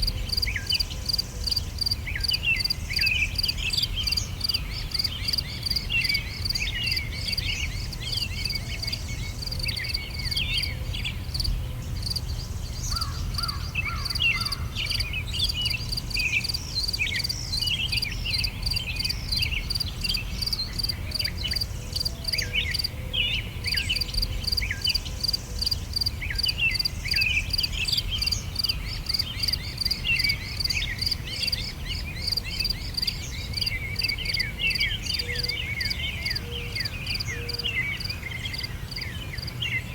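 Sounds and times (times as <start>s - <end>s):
insects chirping: 0.0s - 10.6s, 11.2s - 22.9s, 23.7s - 39.6s
songbirds chirping and trilling: 0.0s - 39.9s.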